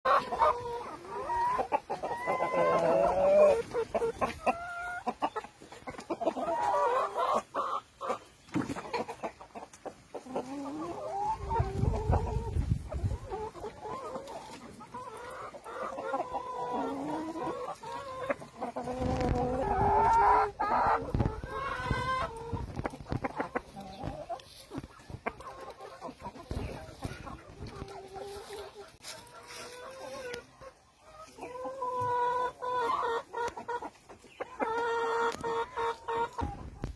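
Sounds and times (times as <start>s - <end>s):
chickens clucking and calling: 0.0s - 36.9s.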